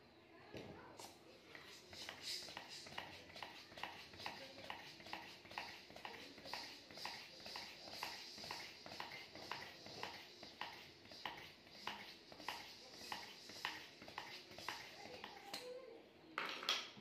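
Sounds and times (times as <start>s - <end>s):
hand pump strokes: 1.6s - 15.5s.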